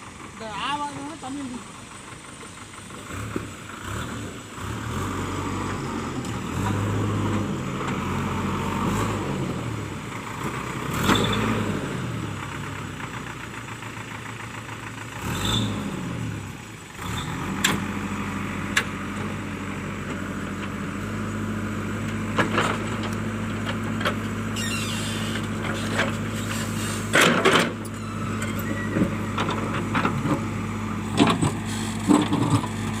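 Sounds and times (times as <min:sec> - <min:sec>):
diesel engine revving: 0:00.0 - 0:33.0.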